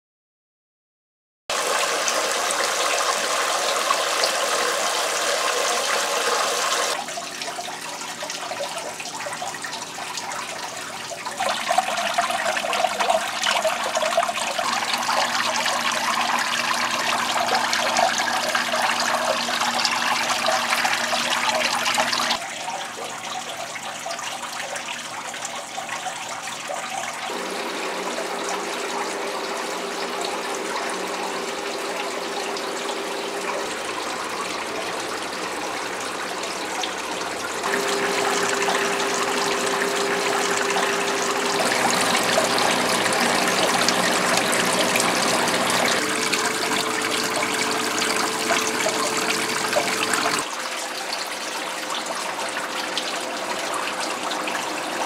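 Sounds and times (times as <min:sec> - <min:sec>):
water trickling and splashing: 0:01.5 - 0:55.0.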